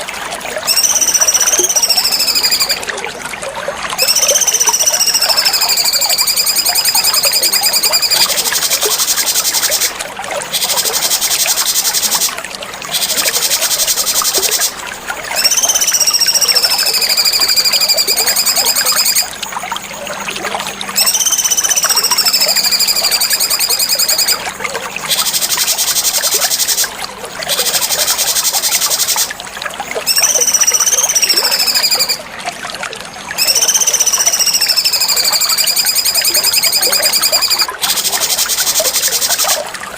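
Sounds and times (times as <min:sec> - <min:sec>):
songbird whistles and trills: 0:00.0 - 0:03.1, 0:03.9 - 0:29.3, 0:30.0 - 0:32.3, 0:33.3 - 0:39.8.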